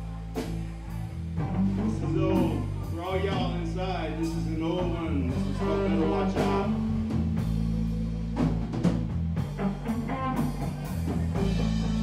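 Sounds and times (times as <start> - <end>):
bass guitar line: 0.0 - 12.0
electric guitars: 0.0 - 12.0.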